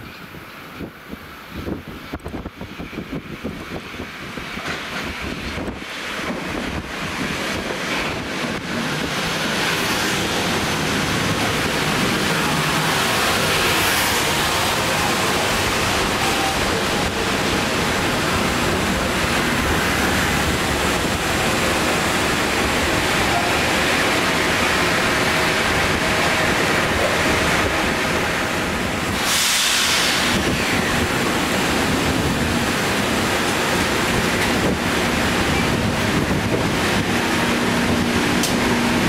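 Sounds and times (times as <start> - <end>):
train wheels rushing on rail: 0.0 - 39.0.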